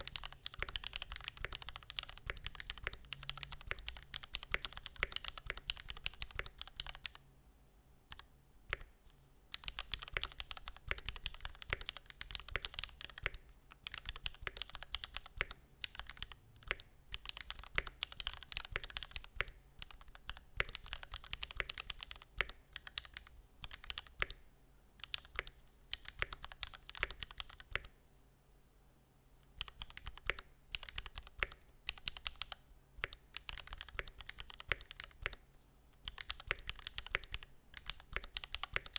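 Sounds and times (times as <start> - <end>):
mechanical keyboard typing: 0.0 - 7.2, 8.1 - 24.4, 25.0 - 28.0, 29.6 - 35.4, 36.0 - 38.9.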